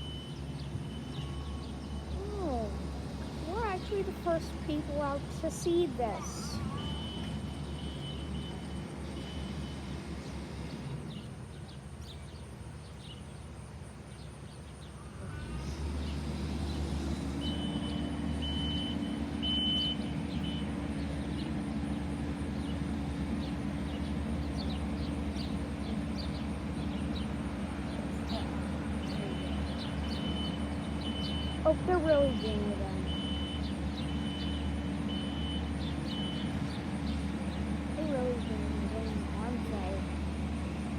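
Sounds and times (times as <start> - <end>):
heavy machine engine droning: 0.0 - 40.9.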